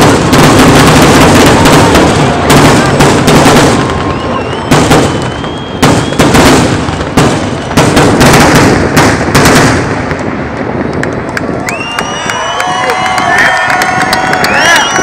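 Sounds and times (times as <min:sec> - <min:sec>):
fireworks booming with echo: 0:00.0 - 0:15.0.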